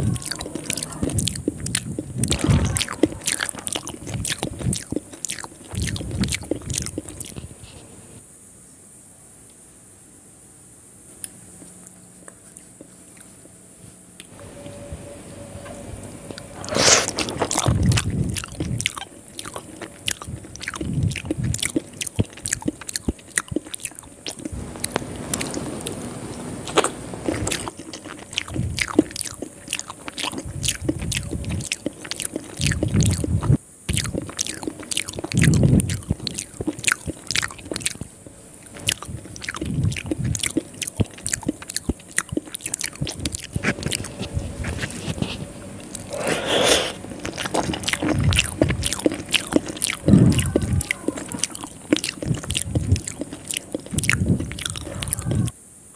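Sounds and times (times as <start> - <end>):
person chewing noodles: 0.0 - 7.8, 11.2 - 13.6, 16.3 - 55.5.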